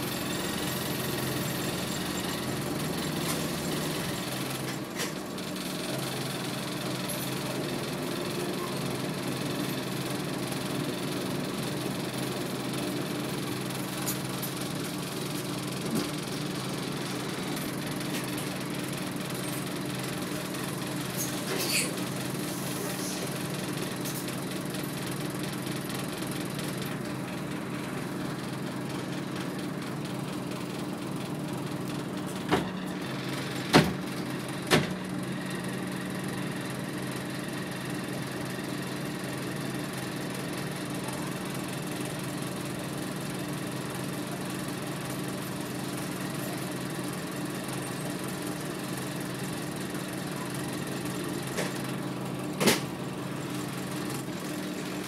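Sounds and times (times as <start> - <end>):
bus diesel engine humming: 0.0 - 55.0.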